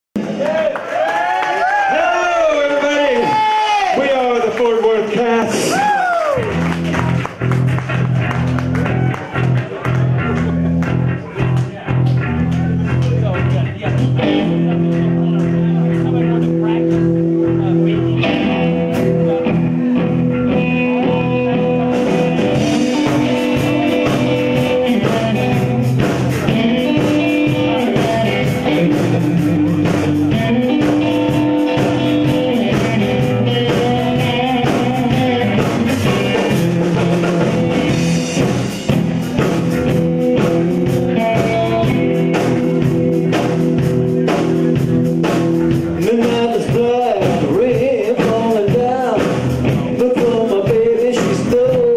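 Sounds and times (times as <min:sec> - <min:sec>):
rock band playing: 0:00.2 - 0:51.9.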